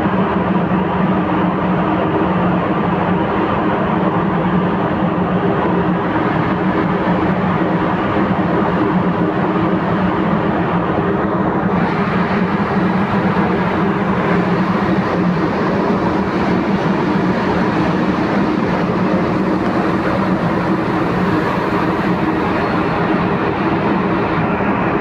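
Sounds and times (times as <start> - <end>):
ferry engines droning: 0.1 - 25.0.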